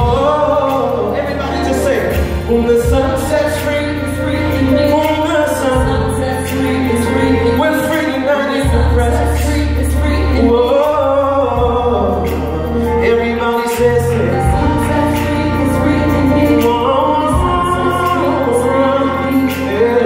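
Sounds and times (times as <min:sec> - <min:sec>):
band with heavy bass: 0:00.0 - 0:20.0
voices singing harmonies: 0:00.0 - 0:20.0.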